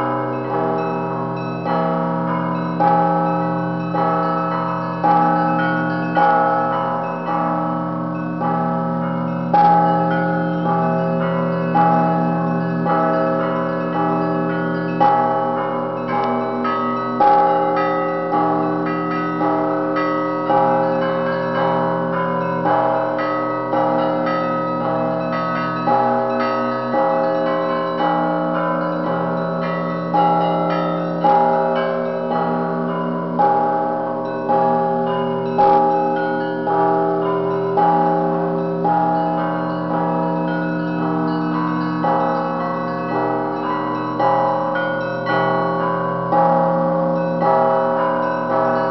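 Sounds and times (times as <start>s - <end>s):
deep church bell: 0.0s - 48.9s
smaller bells ringing quickly: 0.0s - 48.9s.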